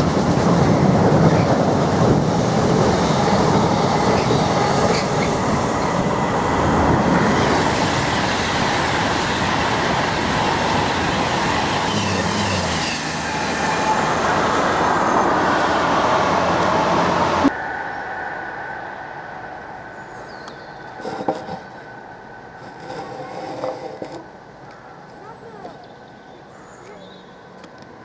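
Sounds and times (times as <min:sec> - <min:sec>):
freight train wheels on rails: 0:00.0 - 0:26.2.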